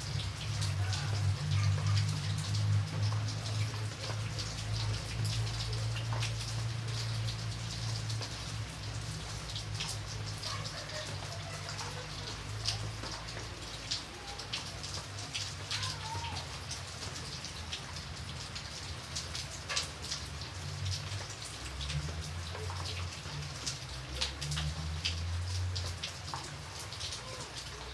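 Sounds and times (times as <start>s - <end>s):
raindrops tapping sharply: 0.0s - 27.9s
steady rain: 0.0s - 27.9s.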